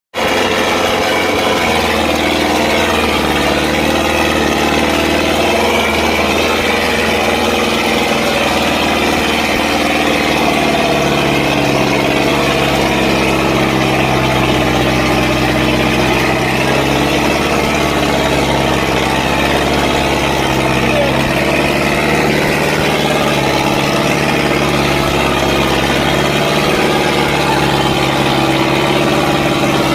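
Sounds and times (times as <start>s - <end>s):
tractor diesel engine running: 0.1s - 29.9s.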